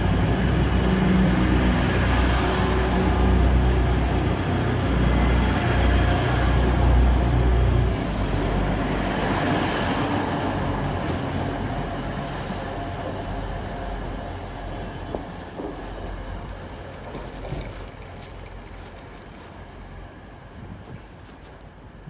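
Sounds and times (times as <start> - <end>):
diesel train engine rumble: 0.0 - 22.0.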